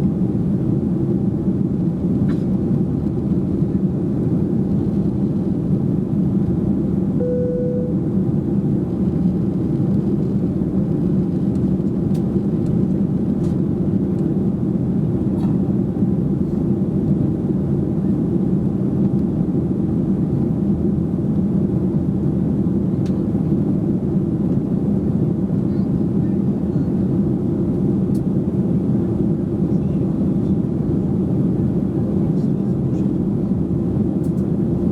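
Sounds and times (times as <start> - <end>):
jet engine cabin rumble: 0.0 - 34.9.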